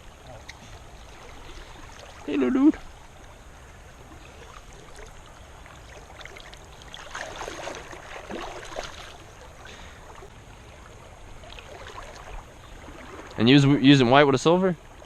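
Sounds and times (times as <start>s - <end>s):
creek water running: 0.0s - 15.0s
water splashing and sloshing: 0.0s - 15.0s.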